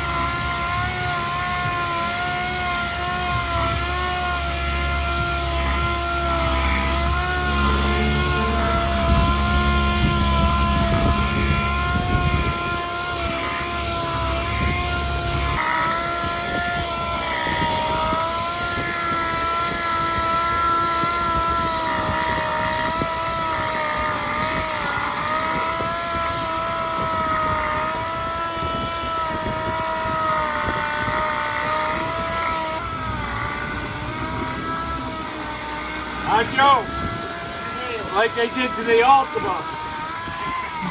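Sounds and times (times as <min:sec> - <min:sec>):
motor whining: 0:00.0 - 0:40.9.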